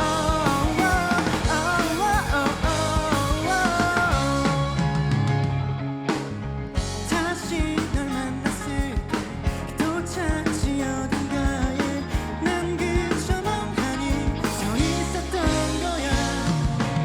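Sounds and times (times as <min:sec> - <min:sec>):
person singing lead vocal: 0:00.0 - 0:05.5, 0:07.0 - 0:17.0
rock band playing: 0:00.0 - 0:17.0.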